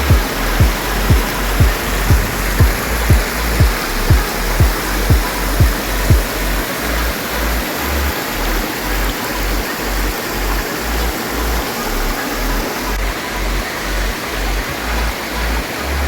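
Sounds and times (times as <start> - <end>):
low rumble: 0.0 - 15.7
river rushing: 0.0 - 16.0.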